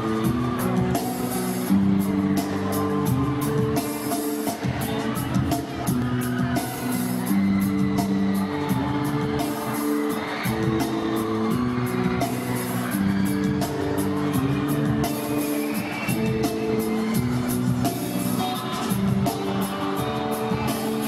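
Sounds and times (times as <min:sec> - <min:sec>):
live pop-rock band: 0:00.0 - 0:21.0.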